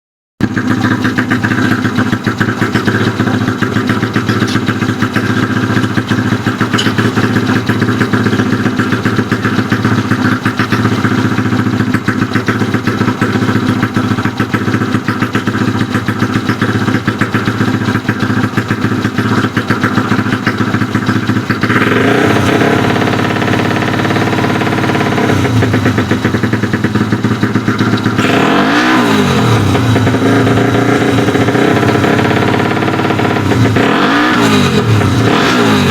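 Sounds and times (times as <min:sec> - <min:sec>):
motorcycle engine idling and revving: 0:00.4 - 0:35.9.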